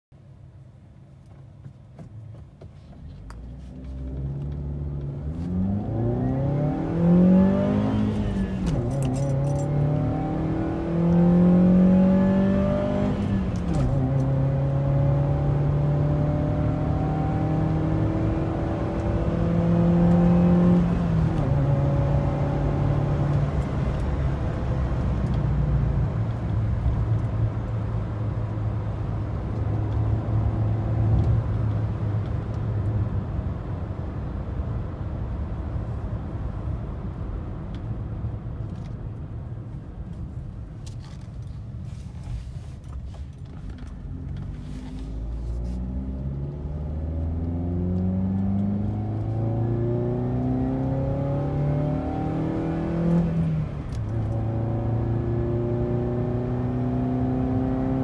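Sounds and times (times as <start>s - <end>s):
car engine accelerating: 3.0s - 39.5s, 40.8s - 58.0s.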